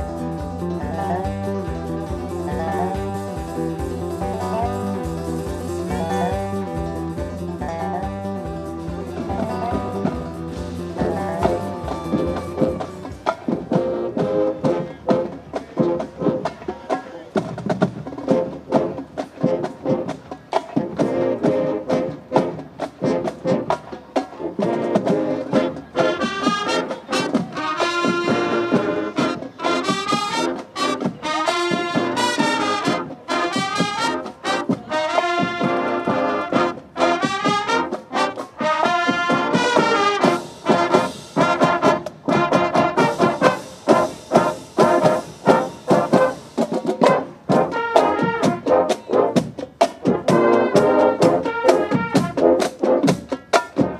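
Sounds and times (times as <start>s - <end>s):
horns playing a tune: 0.0s - 53.9s
steady drum beat: 0.0s - 53.9s.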